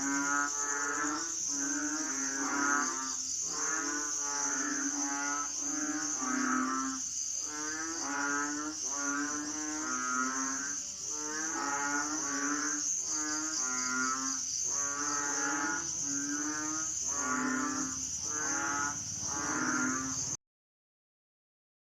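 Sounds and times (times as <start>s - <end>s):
frogs croaking in chorus: 0.0s - 20.4s
high insect trill: 0.0s - 20.4s.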